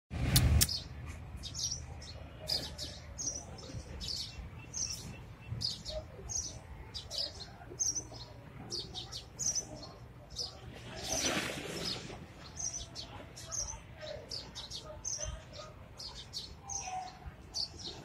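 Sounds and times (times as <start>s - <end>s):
small birds chirping: 0.6s - 18.0s.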